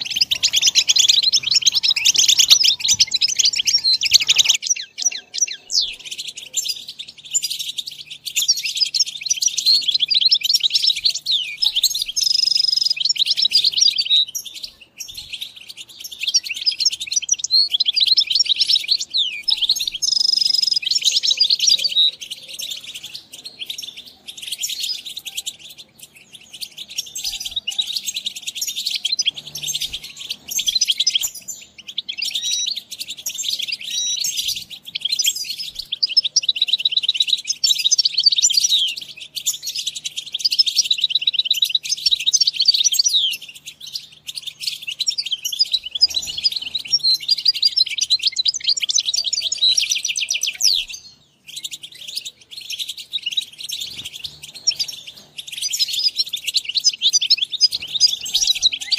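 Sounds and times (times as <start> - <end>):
goldfinch twittering song: 0.0 - 58.9.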